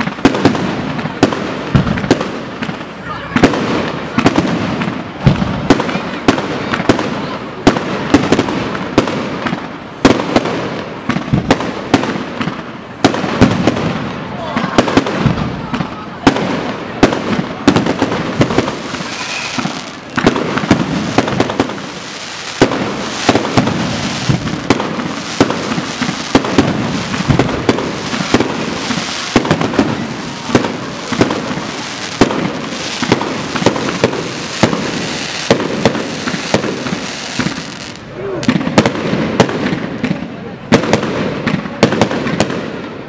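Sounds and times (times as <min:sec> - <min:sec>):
fireworks bursting with bangs and crackling: 0:00.0 - 0:43.0.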